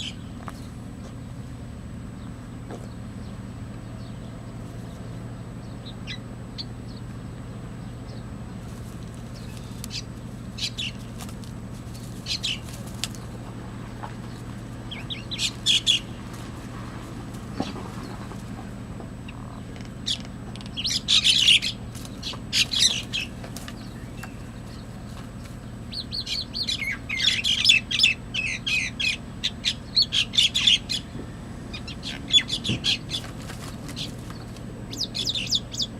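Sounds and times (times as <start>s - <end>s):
small birds chirping harshly: 0.0s - 1.5s, 2.2s - 35.9s
steady low hum: 0.0s - 35.9s.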